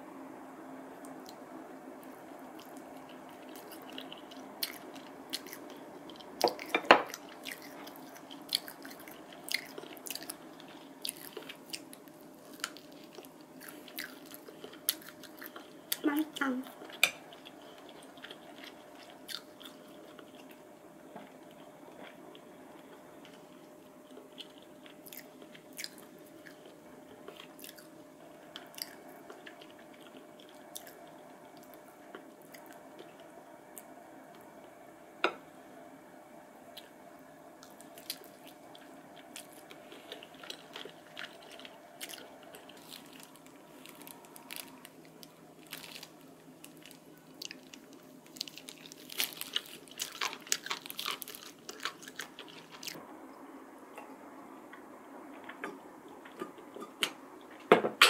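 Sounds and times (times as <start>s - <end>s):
person chewing food: 2.0s - 20.6s, 21.2s - 34.4s, 37.6s - 53.0s.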